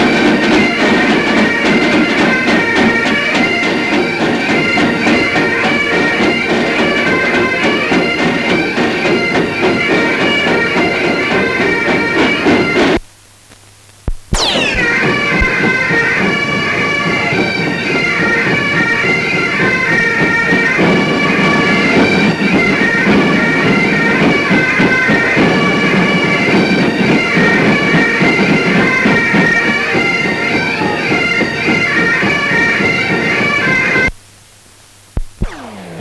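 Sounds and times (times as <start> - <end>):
bagpipe drones: 0.0 - 13.0, 14.4 - 34.1
bagpipes playing a tune: 0.0 - 13.0, 14.4 - 34.1.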